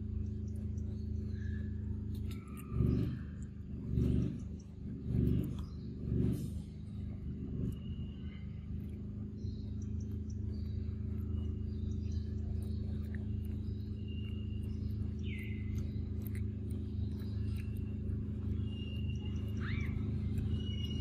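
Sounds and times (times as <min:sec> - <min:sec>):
steady low hum: 0:00.0 - 0:21.0
birds whistling: 0:00.2 - 0:03.4, 0:05.1 - 0:21.0.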